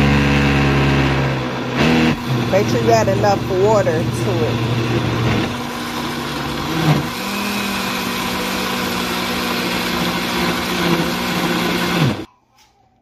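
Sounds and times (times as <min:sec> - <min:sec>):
blender motor running: 0:00.0 - 0:12.3.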